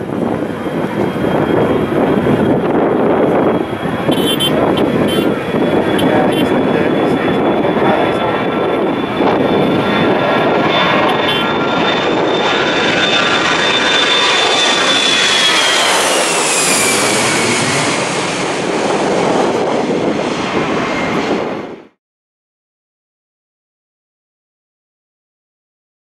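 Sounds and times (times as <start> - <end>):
jet airliner roar overhead: 0.0 - 22.0.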